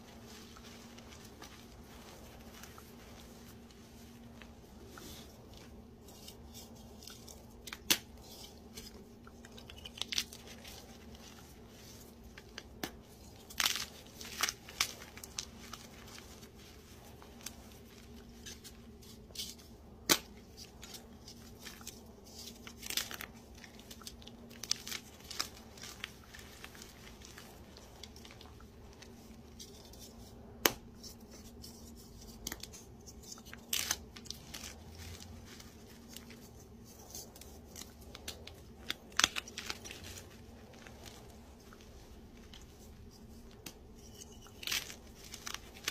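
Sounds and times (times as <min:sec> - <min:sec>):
powder crumbling and rustling: 0:00.0 - 0:45.9.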